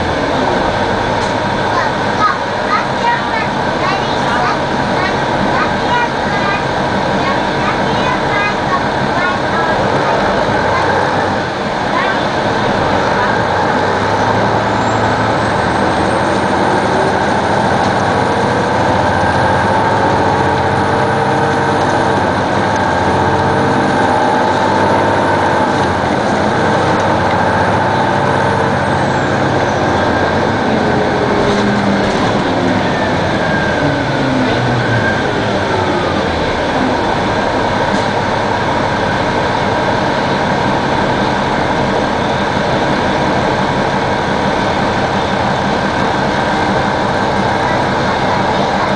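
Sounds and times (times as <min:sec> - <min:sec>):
diesel bus engine running: 0:00.0 - 0:48.9.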